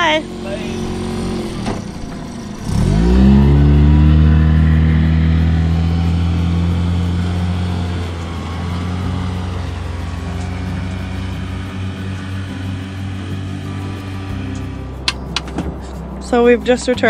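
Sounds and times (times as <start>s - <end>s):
outboard motor revving: 0.0s - 17.0s.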